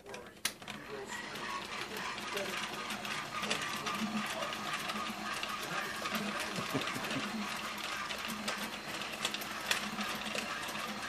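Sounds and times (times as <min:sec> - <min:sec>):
toy motor whirring with clicks: 0:00.1 - 0:11.0.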